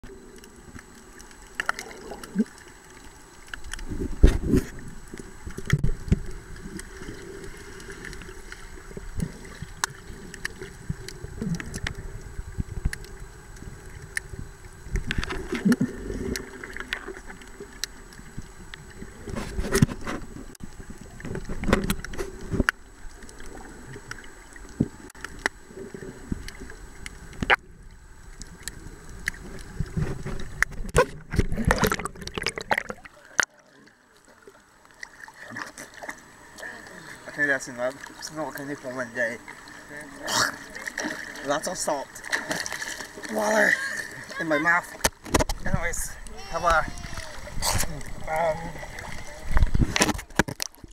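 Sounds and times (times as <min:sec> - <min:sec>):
muffled underwater gurgling: 0:00.0 - 0:34.1, 0:43.2 - 0:50.9.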